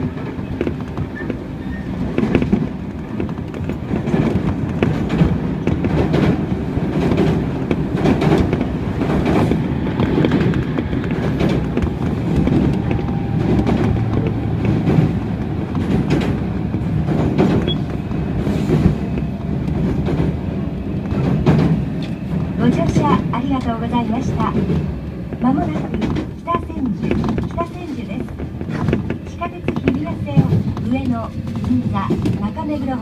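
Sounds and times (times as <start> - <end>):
clicks of wheels over rail joints: 0.0 - 33.0
train wheels rumbling on rail: 0.0 - 33.0.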